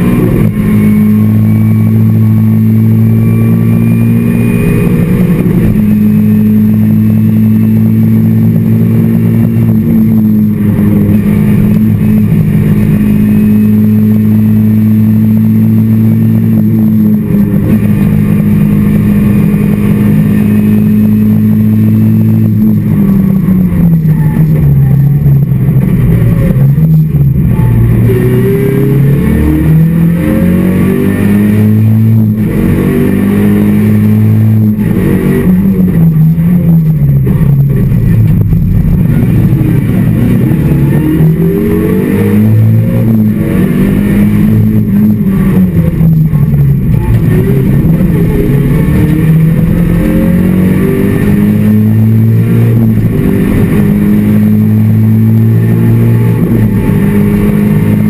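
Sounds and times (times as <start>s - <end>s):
rally car engine running hard: 0.0s - 58.0s.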